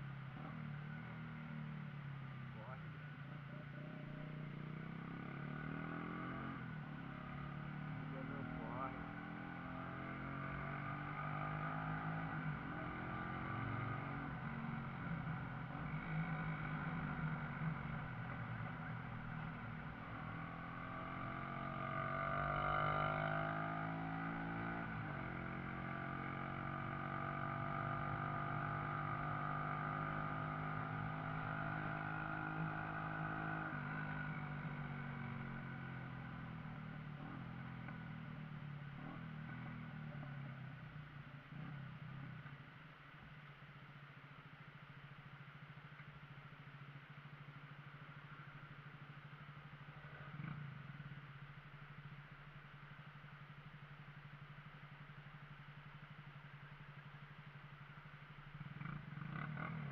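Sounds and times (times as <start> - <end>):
motorcycle engine revving: 0.0 - 43.7, 44.4 - 59.9.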